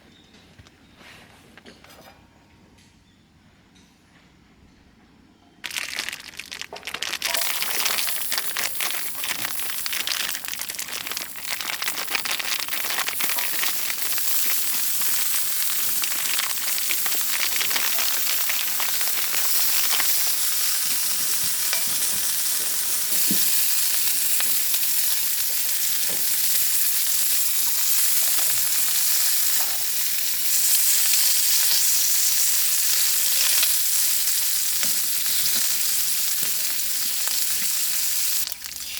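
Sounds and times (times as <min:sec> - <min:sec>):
food sizzling in a hot pan: 0:07.3 - 0:38.9.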